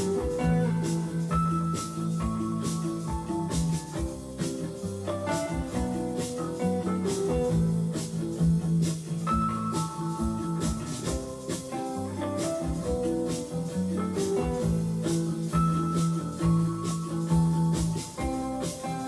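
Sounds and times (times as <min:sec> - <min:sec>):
plucked guitar music with beat: 0:00.0 - 0:19.0.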